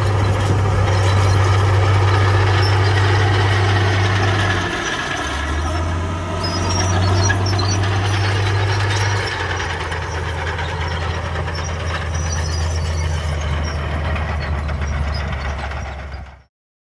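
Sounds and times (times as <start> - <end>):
heavy diesel engine running: 0.0 - 16.5.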